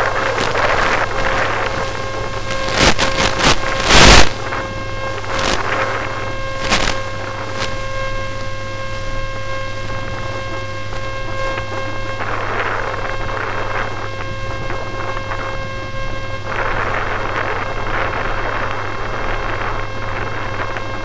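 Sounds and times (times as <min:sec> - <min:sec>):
electric motor hum: 0:00.0 - 0:21.0
high whining motor tones: 0:00.0 - 0:21.0.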